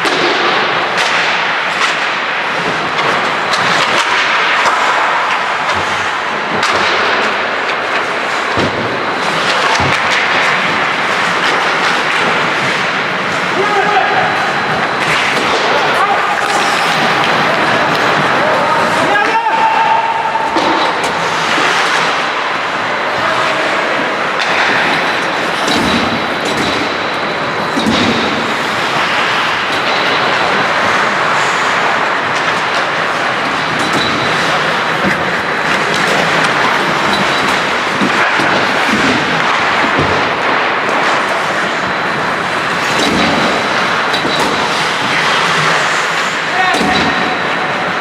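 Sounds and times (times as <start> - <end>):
hockey sticks and puck clicks: 0.0 - 48.0
skates scraping on ice: 0.0 - 48.0.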